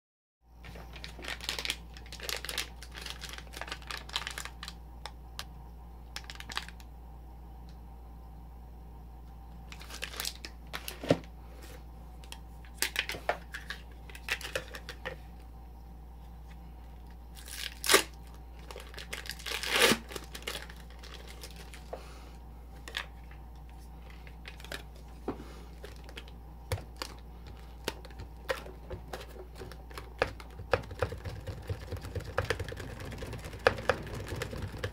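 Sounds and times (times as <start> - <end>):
steady low hum: 0.4 - 34.9.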